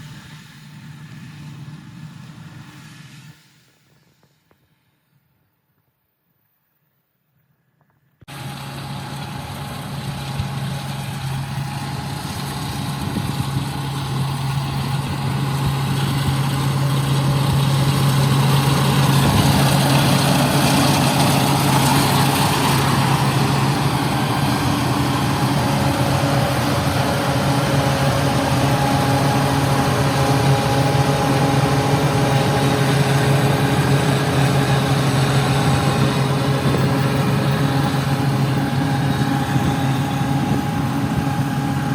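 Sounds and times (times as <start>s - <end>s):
engine running with low hum: 0.0s - 4.9s, 8.3s - 41.9s.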